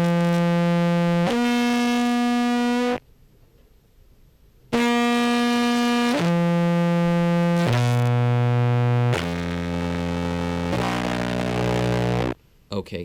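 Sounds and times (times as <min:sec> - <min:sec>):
fuzzy clarinet sustained notes: 0:00.0 - 0:03.0, 0:04.8 - 0:12.4.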